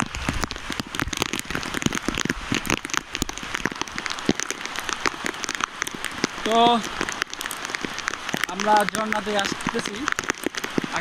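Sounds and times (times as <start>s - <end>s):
raindrops tapping near microphone: 0.0s - 11.0s
steady hiss of rain: 0.0s - 11.0s.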